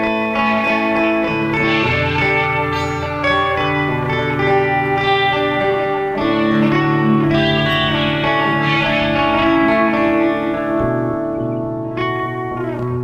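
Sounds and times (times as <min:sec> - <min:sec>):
guitar background music: 0:00.0 - 0:13.0.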